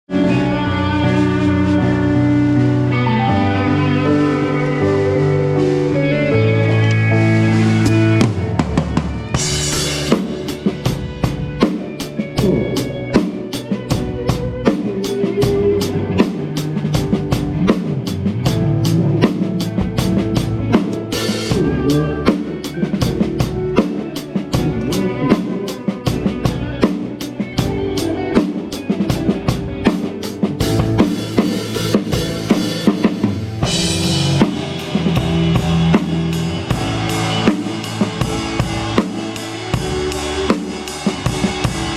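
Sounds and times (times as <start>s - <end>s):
rock band playing live: 0.0s - 41.9s
drum kit beat: 0.1s - 41.9s.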